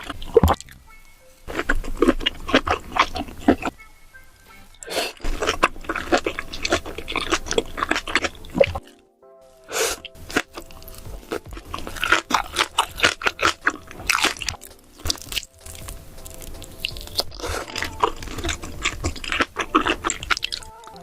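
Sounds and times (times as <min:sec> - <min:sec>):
person chewing food: 0:00.0 - 0:00.8, 0:01.4 - 0:03.8, 0:04.7 - 0:08.9, 0:09.7 - 0:21.0.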